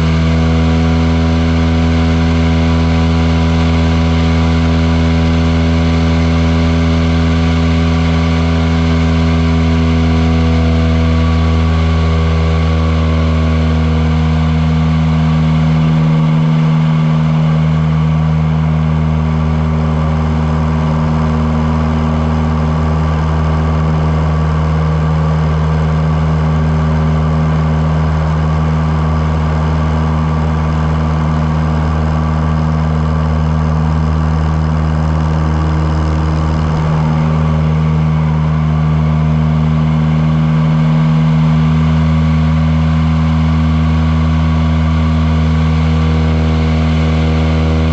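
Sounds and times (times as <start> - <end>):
light aircraft engine and propeller: 0.0 - 47.9.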